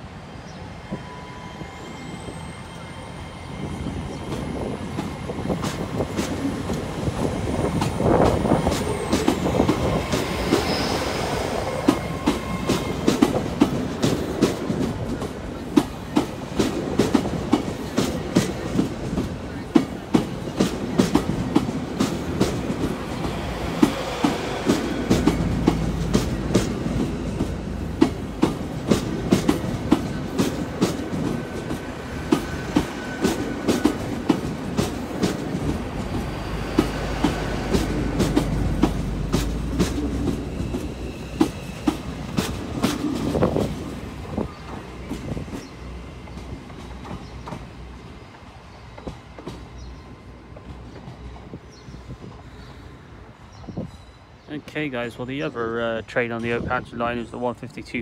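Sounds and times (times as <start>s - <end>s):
deep train rumble: 0.0s - 58.0s
train wheels clicking over rail joints: 4.2s - 52.0s.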